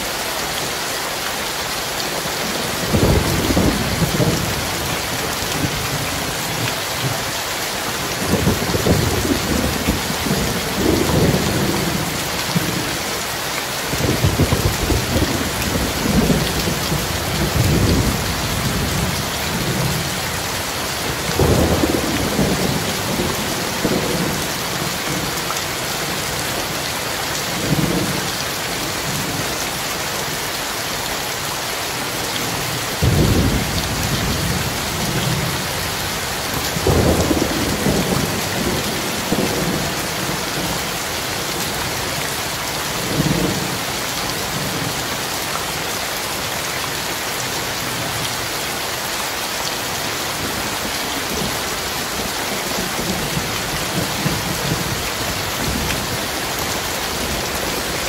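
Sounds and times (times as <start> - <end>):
heavy rain on road: 0.0 - 58.0.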